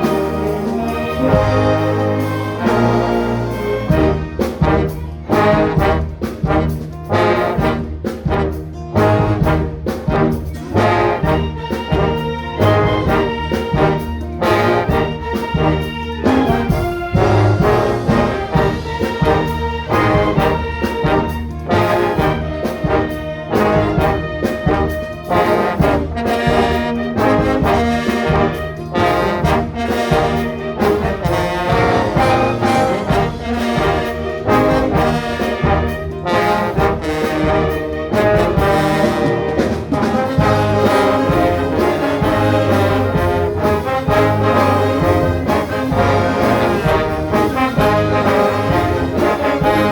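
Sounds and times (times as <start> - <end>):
brass sustained chords: 0.0 - 49.9
orchestra playing: 0.0 - 49.9.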